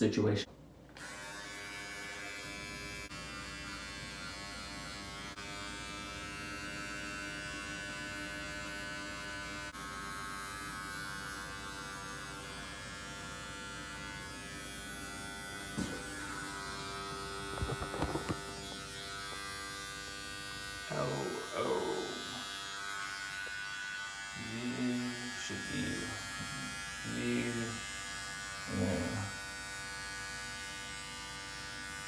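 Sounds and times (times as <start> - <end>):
electric hair trimmer buzzing: 0.9 - 32.0.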